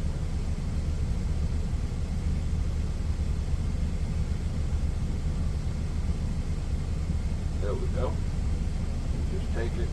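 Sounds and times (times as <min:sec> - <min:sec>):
truck engine idling: 0:00.0 - 0:09.9.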